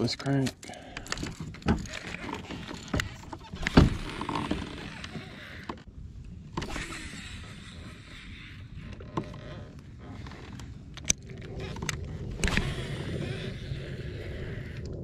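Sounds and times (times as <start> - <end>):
fishing reel cranking: 0.9 - 5.8, 6.6 - 15.0.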